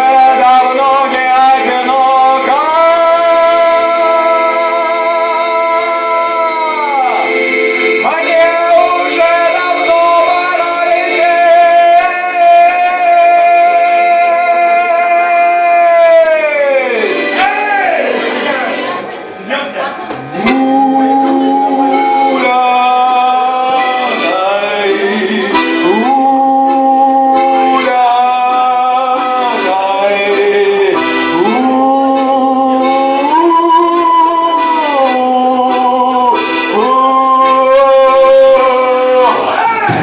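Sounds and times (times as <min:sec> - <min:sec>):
band playing sustained chords: 0:00.0 - 0:39.8.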